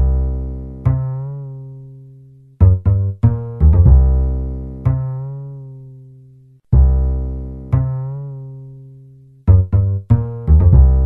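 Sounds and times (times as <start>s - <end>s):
background music notes: 0.0s - 11.0s.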